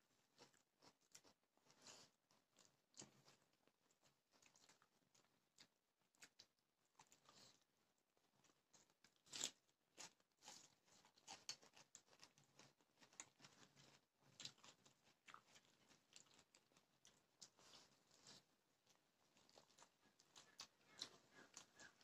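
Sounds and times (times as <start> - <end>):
person chewing and crunching food: 0.1 - 22.0.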